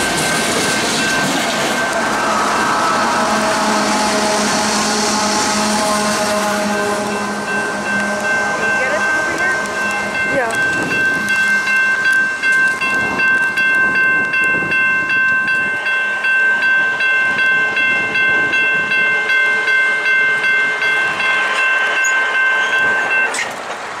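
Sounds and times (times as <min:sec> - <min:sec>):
crossing signal bell ringing: 0:00.0 - 0:23.5.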